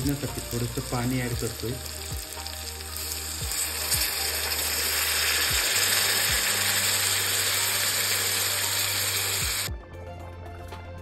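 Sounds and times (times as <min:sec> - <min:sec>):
water sizzling in hot oil: 0:00.0 - 0:09.7.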